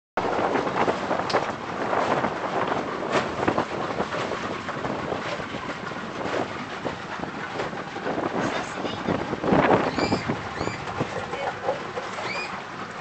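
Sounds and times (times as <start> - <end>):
boat and water noise: 0.2 - 13.0
wind buffeting microphone: 0.2 - 13.0.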